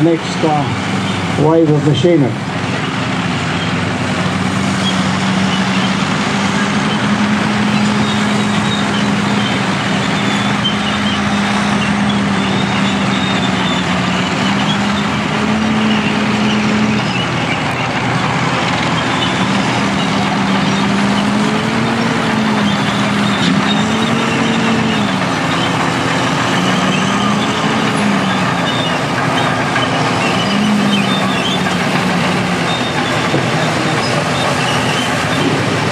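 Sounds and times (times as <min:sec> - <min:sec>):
bulldozers clattering: 0:00.0 - 0:35.9
engine revving up and down: 0:00.0 - 0:35.9.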